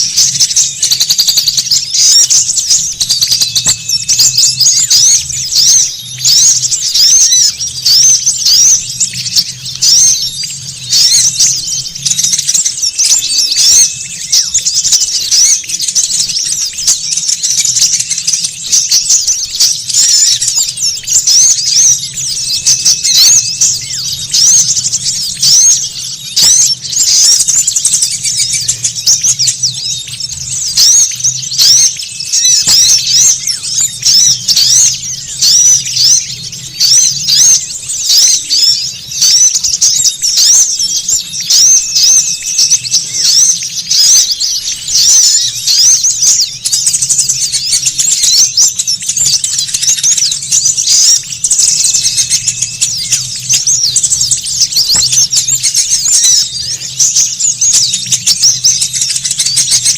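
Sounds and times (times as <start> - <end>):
songbirds twittering: 0.0 - 59.9.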